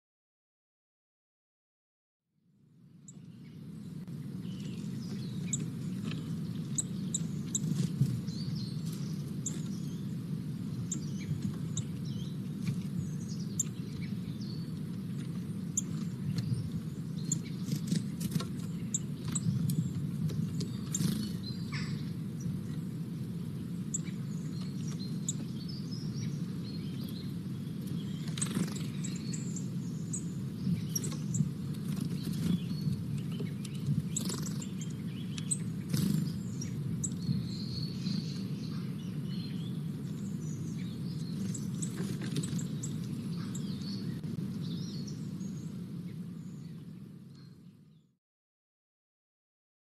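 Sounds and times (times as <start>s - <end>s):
small birds chirping: 2.8s - 48.2s
steady low rumble: 3.2s - 47.5s.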